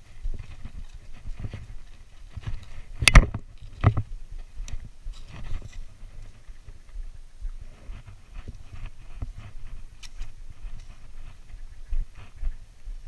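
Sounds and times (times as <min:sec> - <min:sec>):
footsteps clambering over rocks: 0:00.0 - 0:13.0.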